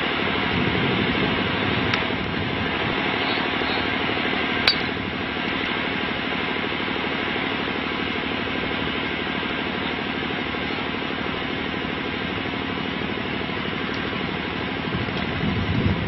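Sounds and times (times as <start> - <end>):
rumbling noise and hiss: 0.0 - 16.0.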